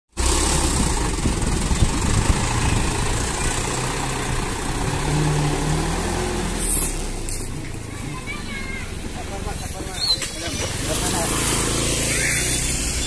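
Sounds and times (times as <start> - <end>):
diesel truck engine running: 0.1 - 13.0.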